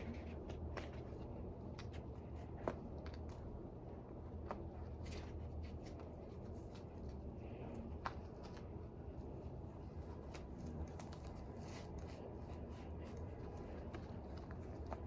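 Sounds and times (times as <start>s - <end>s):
light rustles of handling: 0.0s - 15.0s
steady low hum: 0.0s - 15.0s.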